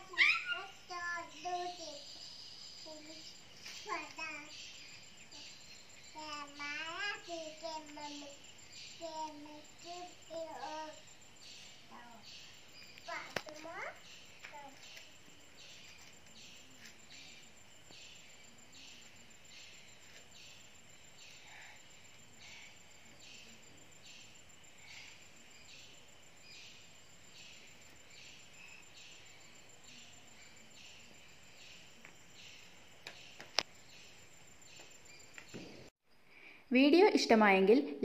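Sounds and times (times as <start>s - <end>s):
faint high chirping: 0.0s - 38.0s
outdoor background hiss: 0.0s - 38.0s.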